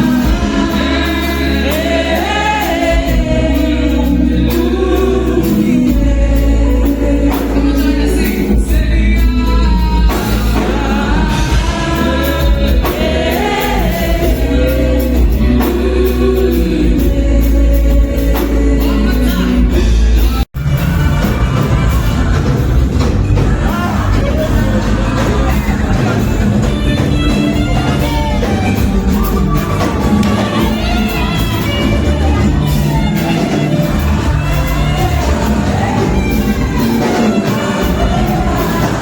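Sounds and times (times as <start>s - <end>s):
voices singing together: 0.0s - 39.0s.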